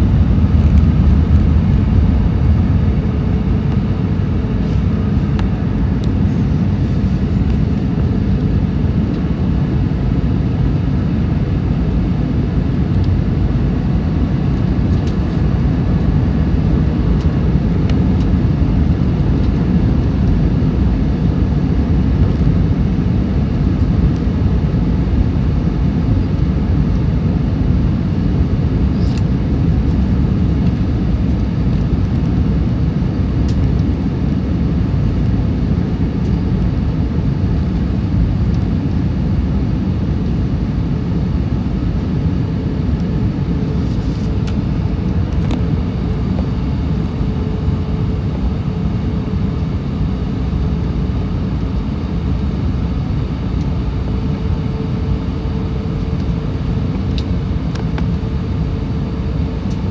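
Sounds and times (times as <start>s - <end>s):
jet engines and airflow rumble: 0.0s - 59.9s.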